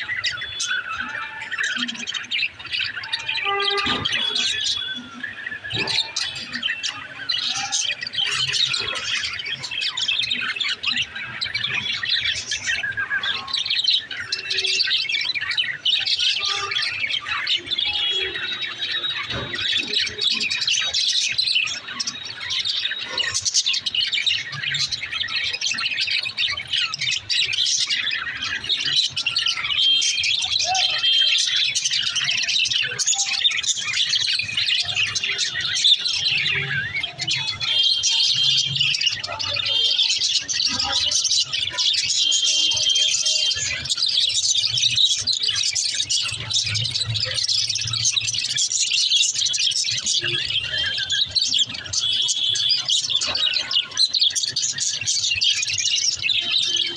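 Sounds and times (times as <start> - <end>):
budgerigars chirping: 0.0 - 56.9.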